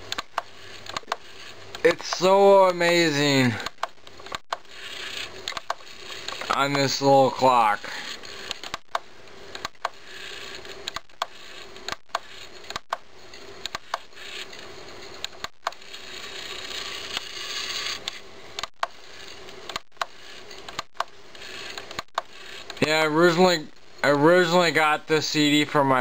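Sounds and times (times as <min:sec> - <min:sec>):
disc drive whirring: 0:00.0 - 0:24.7.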